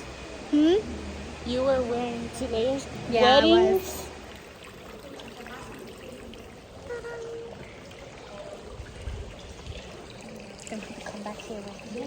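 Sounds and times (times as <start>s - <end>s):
running and splashing water: 0.0s - 12.0s.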